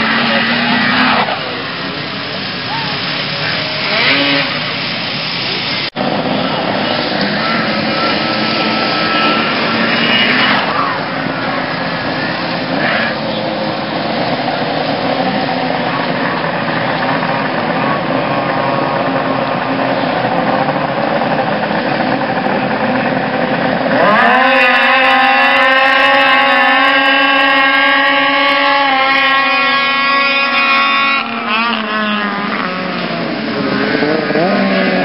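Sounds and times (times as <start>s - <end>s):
snowmobile engines revving: 0.0s - 35.0s.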